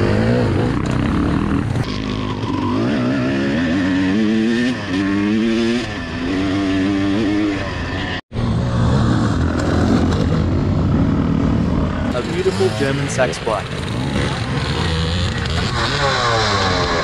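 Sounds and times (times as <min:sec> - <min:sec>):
dirt bike engine revving: 0:00.0 - 0:17.0
other dirt bike engines: 0:00.0 - 0:17.0.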